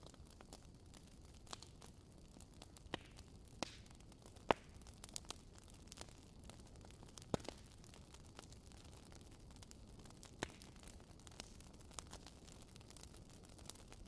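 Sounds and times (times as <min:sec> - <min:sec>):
low steady hiss: 0:00.0 - 0:14.0
wood fire crackling: 0:00.0 - 0:14.0.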